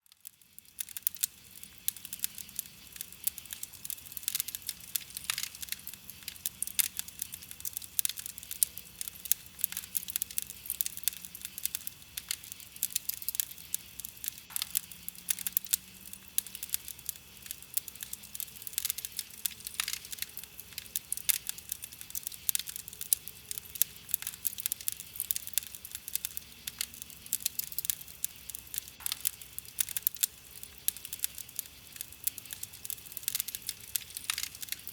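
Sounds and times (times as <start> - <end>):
campfire crackling and popping: 0.0 - 34.9.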